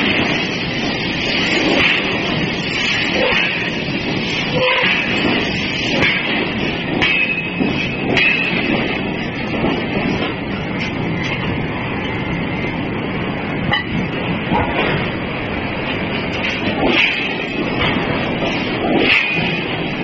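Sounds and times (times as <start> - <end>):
heavy forging machinery running: 0.0 - 20.0.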